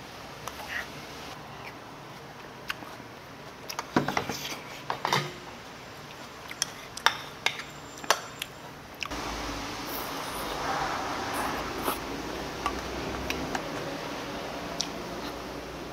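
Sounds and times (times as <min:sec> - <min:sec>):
steady background noise: 0:00.0 - 0:15.9.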